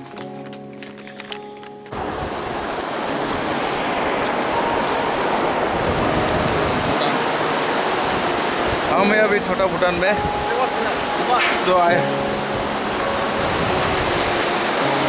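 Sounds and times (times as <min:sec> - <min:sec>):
fast-flowing river rushing: 0:01.9 - 0:15.0.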